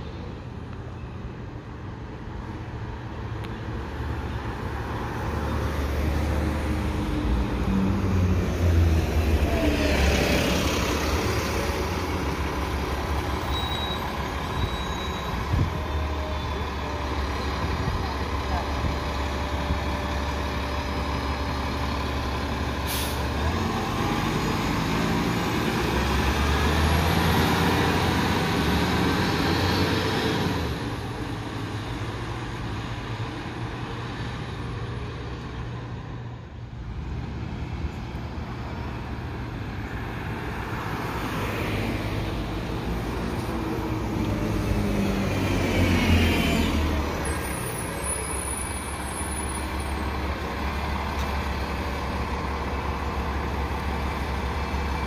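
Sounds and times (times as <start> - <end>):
bus approaching and stopping: 0.0 - 55.0
bus accelerating away: 2.3 - 55.0.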